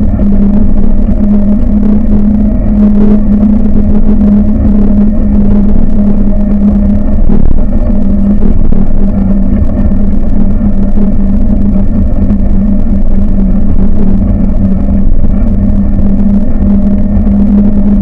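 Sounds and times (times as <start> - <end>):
buggy engine droning: 0.0 - 18.0.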